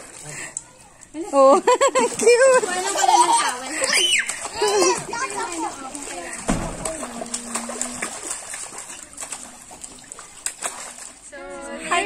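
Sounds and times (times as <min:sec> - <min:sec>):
water splashing in paddling pool: 0:00.0 - 0:12.0.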